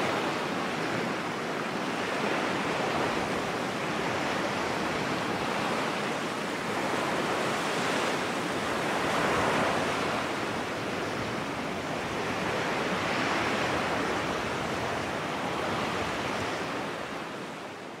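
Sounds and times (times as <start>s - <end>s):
ocean waves washing in: 0.0s - 18.0s.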